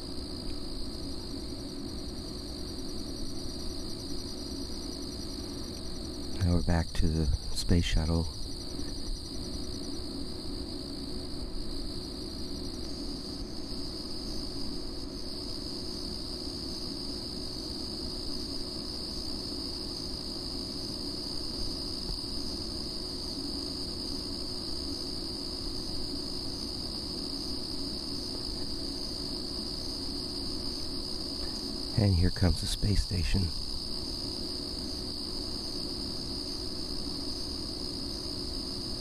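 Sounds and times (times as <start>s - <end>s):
crickets trilling: 0.0s - 39.0s.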